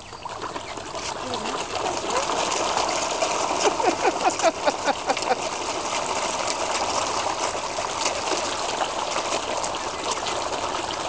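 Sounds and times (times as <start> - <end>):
water splashing from fish thrashing: 0.1 - 11.0.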